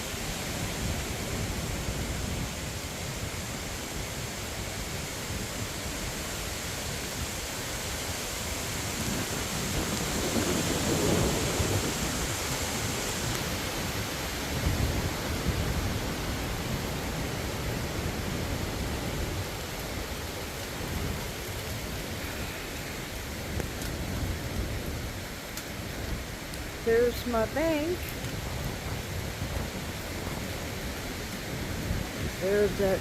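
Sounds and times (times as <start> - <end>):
rain falling: 0.0 - 33.0
strong wind gusting: 0.0 - 33.0
wind buffeting microphone: 0.0 - 33.0.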